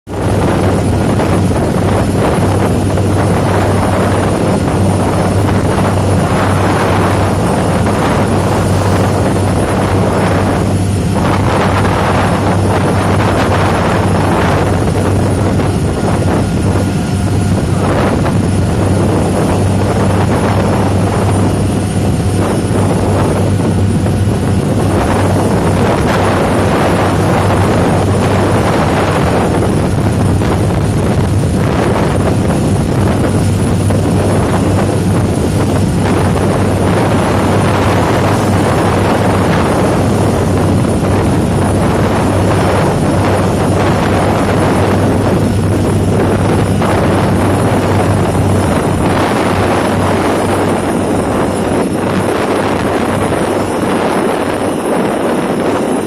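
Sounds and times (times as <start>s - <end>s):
ferry engine drone: 0.0s - 56.0s
wind buffeting microphone: 0.0s - 56.0s.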